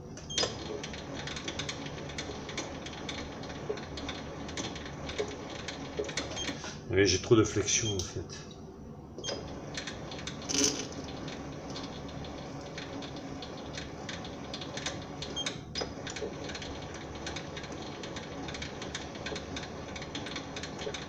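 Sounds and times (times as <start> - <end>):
lathe motor and gear hum: 0.0 - 6.8, 9.2 - 21.0.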